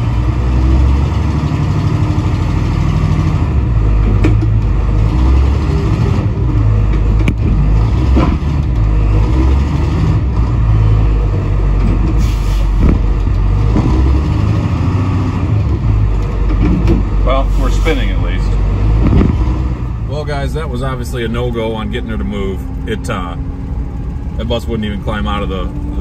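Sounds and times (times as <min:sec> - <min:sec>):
diesel engine revving under load: 0:00.0 - 0:26.0.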